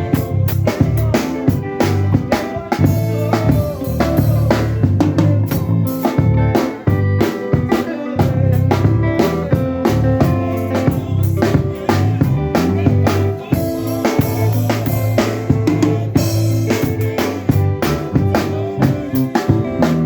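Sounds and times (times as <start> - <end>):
band music: 0.0 - 20.0
drum kit beat: 0.0 - 20.0
held bass notes: 0.0 - 20.0.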